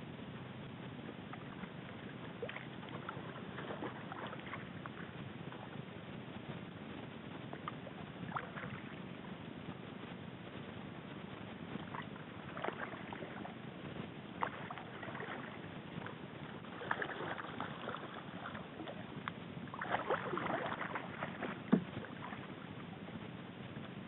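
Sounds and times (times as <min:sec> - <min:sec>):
small waves lapping against kayak: 0:00.9 - 0:24.0.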